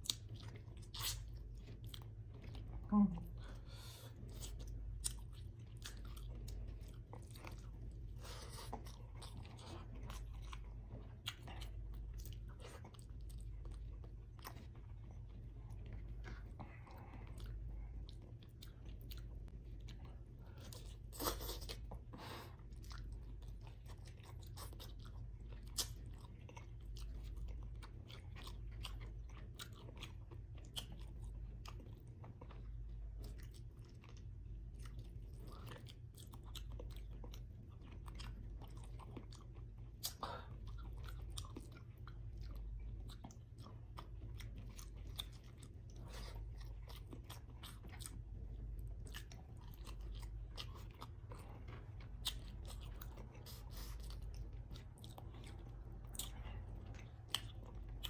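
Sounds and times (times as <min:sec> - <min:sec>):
steady low hum: 0:00.0 - 0:58.0
wet chewing with mouth clicks: 0:00.0 - 0:58.0.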